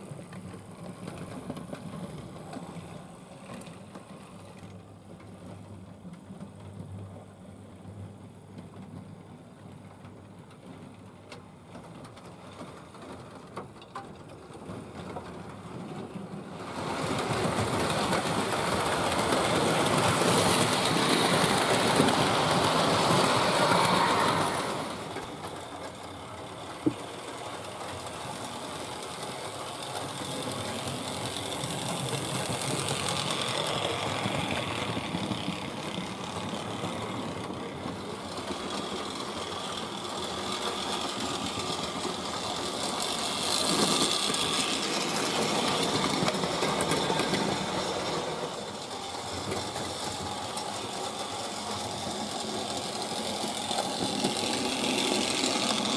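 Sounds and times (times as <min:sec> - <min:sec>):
wheels clattering on rail: 0:08.5 - 0:55.9.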